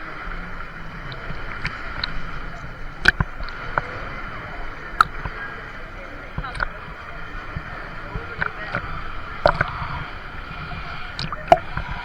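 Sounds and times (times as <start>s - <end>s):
sharp splashes: 0.0s - 12.0s
water rushing and sloshing: 0.0s - 12.0s.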